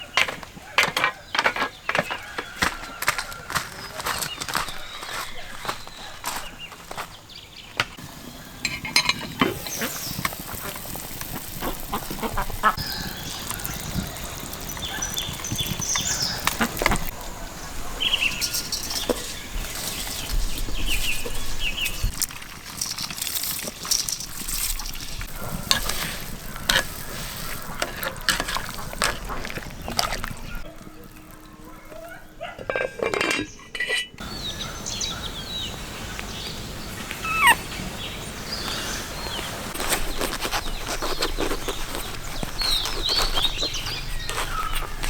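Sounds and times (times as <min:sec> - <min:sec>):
birds calling: 0:00.0 - 0:23.0, 0:23.6 - 0:45.0.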